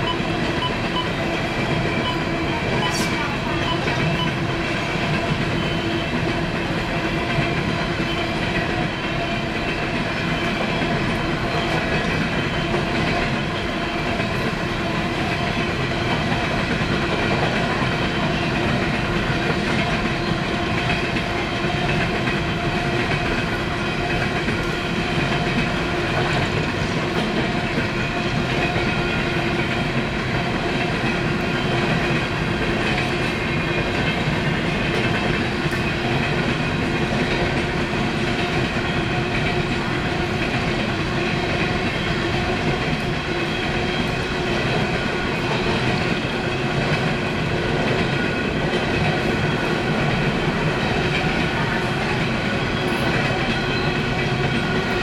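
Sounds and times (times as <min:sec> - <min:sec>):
freight train rolling past: 0:00.0 - 0:55.0
wheels ringing on rails: 0:00.0 - 0:55.0.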